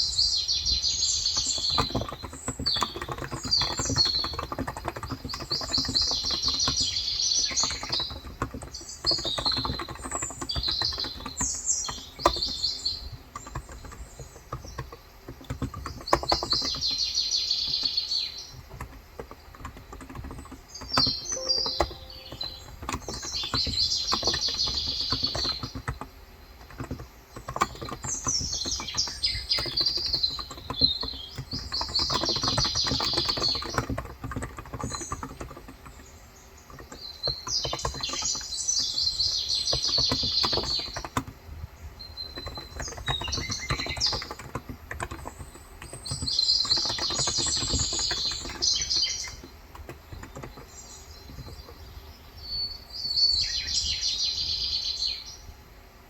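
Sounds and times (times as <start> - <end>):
keyboard typing: 0.0 - 53.0
birds chirping: 0.0 - 55.5.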